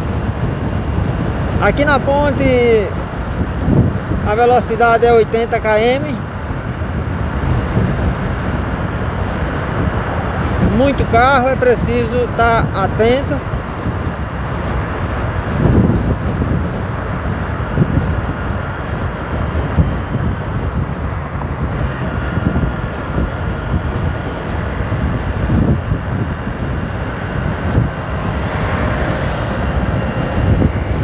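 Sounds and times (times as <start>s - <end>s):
motorcycle engine and road noise: 0.0s - 31.0s
wind buffeting microphone: 0.0s - 31.0s.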